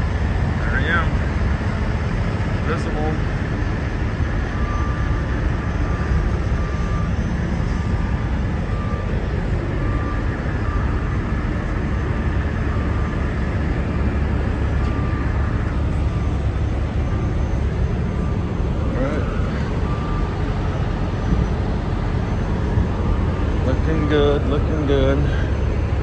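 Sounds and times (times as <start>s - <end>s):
diesel truck engines idling: 0.0s - 26.0s.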